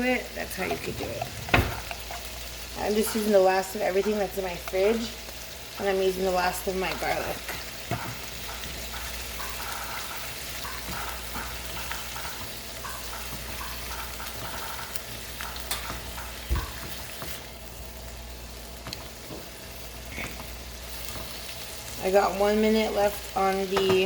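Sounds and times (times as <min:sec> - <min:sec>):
shrimp sizzling in a frying pan: 0:00.0 - 0:24.0.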